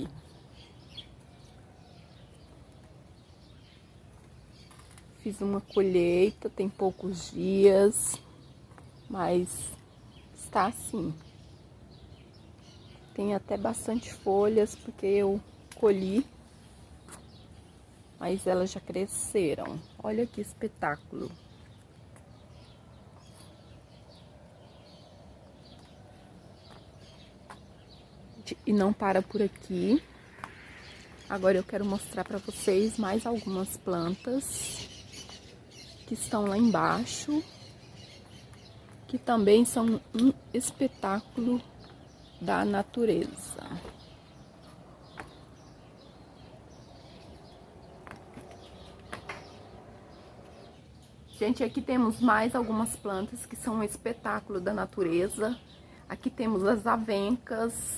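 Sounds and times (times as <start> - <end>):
faint birds chirping: 0.0 - 57.9.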